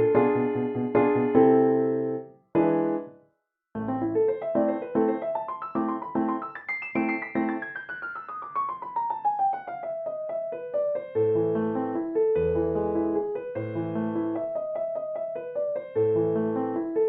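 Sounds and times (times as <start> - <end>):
piano music: 0.0 - 3.2, 3.8 - 17.0.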